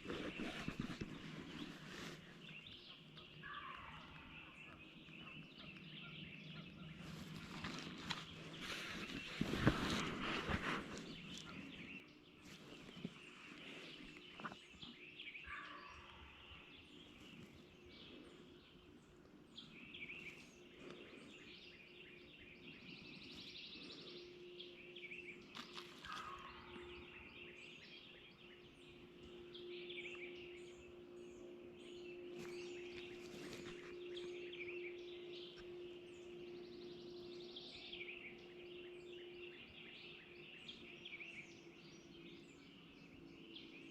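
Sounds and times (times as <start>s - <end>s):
faint steady low hum: 0.0s - 43.9s
songbirds calling and trilling: 0.0s - 43.9s.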